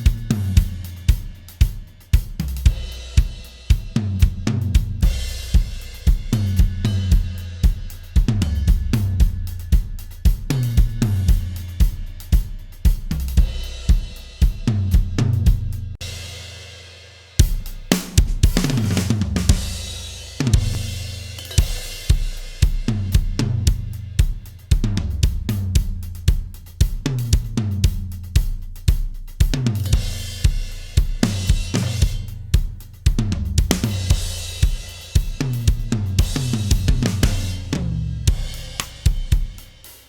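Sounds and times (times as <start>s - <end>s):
drum kit playing a groove: 0.0s - 40.0s.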